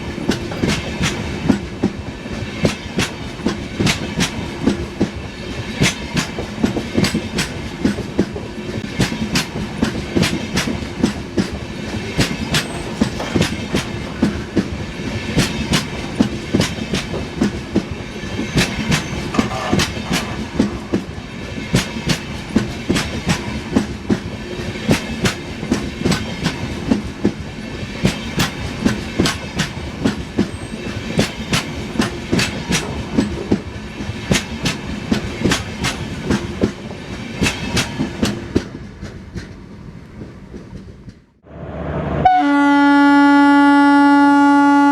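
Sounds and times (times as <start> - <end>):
train wheels clicking over rail joints: 0.0 - 41.4
train rumble: 0.0 - 43.2.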